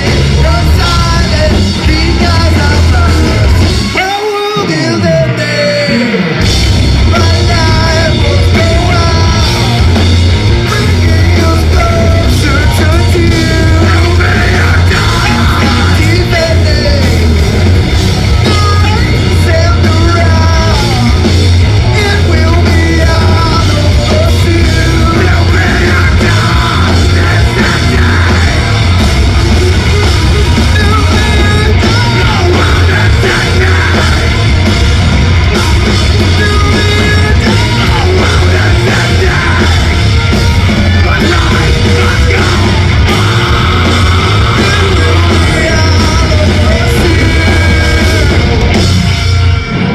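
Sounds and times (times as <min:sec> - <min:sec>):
heavy metal band playing live: 0:00.0 - 0:49.9.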